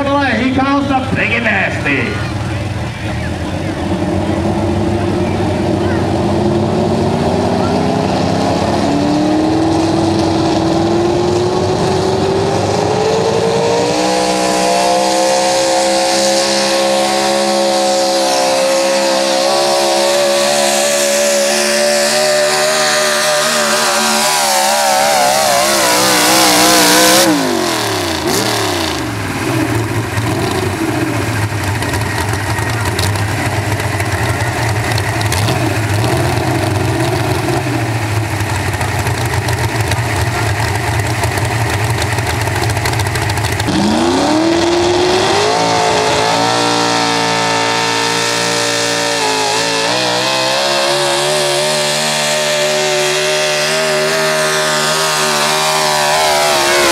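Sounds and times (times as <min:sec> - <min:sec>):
engine running at low revs: 0:00.0 - 0:56.9
truck engine at full throttle: 0:00.0 - 0:56.9
truck engine revving up: 0:00.0 - 0:56.9.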